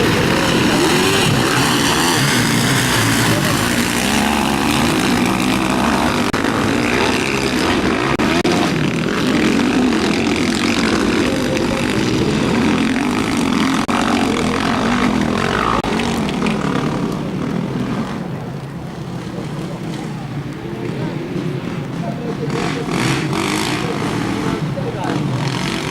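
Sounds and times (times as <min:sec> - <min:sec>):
motocross motorcycles revving: 0:00.0 - 0:25.9.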